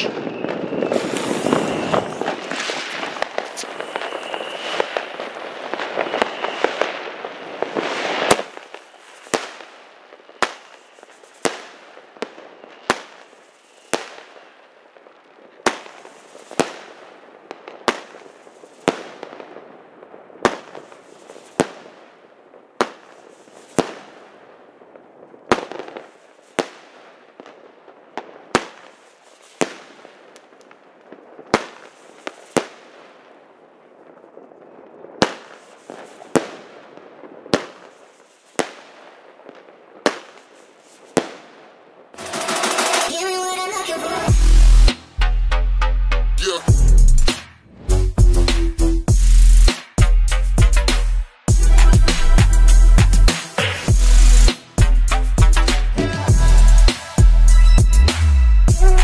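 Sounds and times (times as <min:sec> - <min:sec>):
firework hissing and crackling: 0:00.0 - 0:22.2, 0:22.8 - 0:27.5, 0:28.3 - 0:33.3, 0:34.0 - 0:45.2, 0:48.6 - 0:50.0, 0:51.4 - 0:59.0
sharp firework shots: 0:00.0 - 0:22.2, 0:22.8 - 0:33.4, 0:35.1 - 0:45.2, 0:48.5 - 0:50.2, 0:50.8 - 0:57.3.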